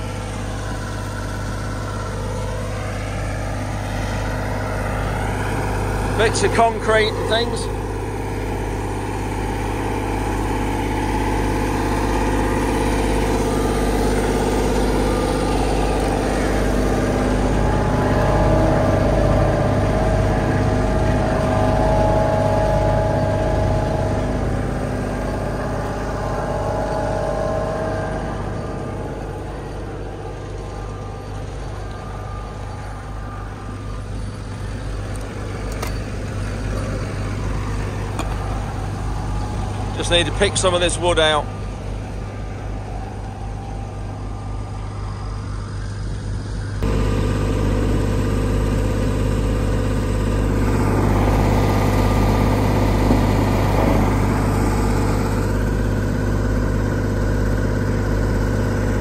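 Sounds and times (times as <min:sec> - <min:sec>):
tractor diesel engine: 0:00.0 - 0:59.0
vibrating roller drone: 0:00.0 - 0:59.0.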